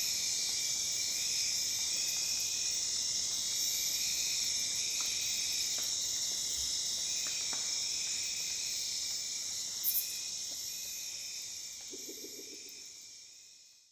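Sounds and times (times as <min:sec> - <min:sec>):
crickets and insects trilling: 0:00.0 - 0:13.9.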